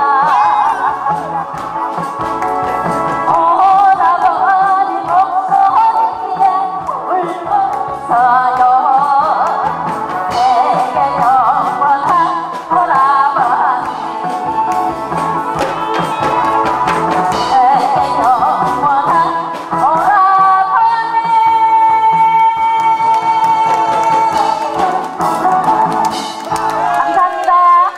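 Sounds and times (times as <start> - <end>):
woman singing into a microphone: 0.0 - 1.9, 3.2 - 15.0, 17.2 - 26.0, 26.8 - 27.9
backing track: 0.0 - 27.9.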